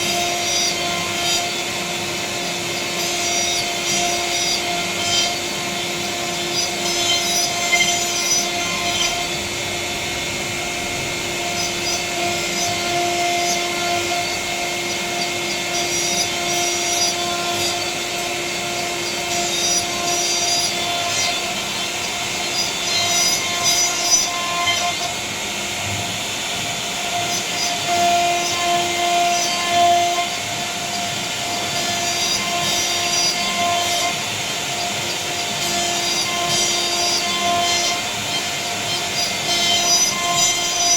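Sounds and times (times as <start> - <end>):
cnc router spindle humming: 0.0 - 40.9.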